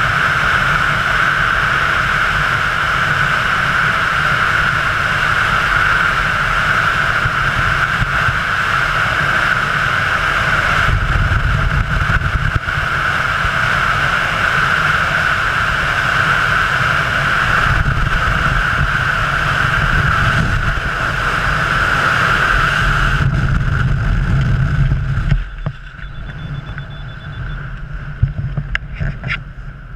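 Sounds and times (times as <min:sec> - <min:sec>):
wind rushing over microphone: 0:00.0 - 0:29.9.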